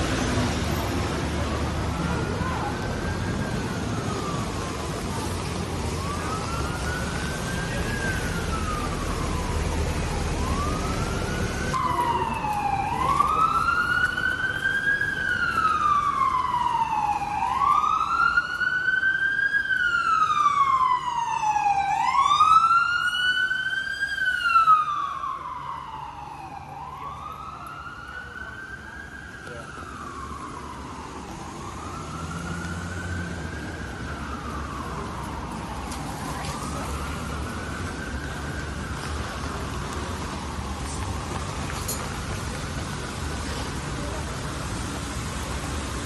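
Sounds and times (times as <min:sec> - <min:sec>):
emergency siren wailing: 0:00.0 - 0:46.0
street noise: 0:00.0 - 0:46.0.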